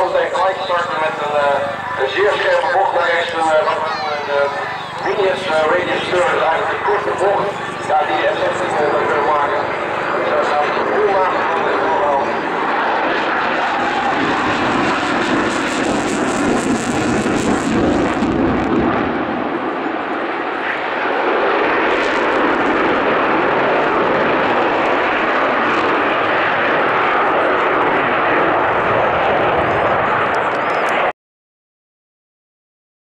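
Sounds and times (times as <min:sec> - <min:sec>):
jet engine roar: 0:00.0 - 0:31.1.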